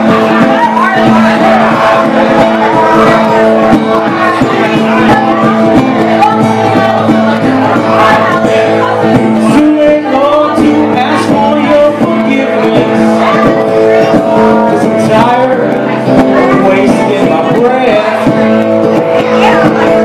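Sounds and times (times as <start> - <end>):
acoustic guitar: 0.0 - 20.0
person singing: 0.0 - 20.0.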